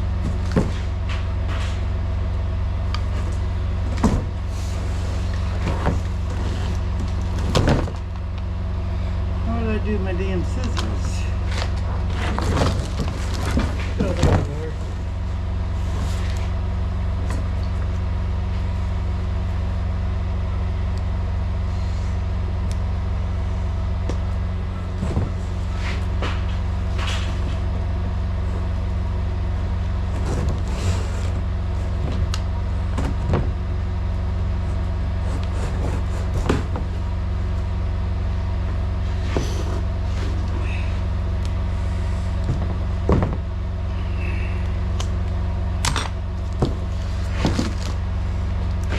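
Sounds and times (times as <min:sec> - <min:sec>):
diesel truck engine idling: 0:00.0 - 0:35.3, 0:36.6 - 0:48.9.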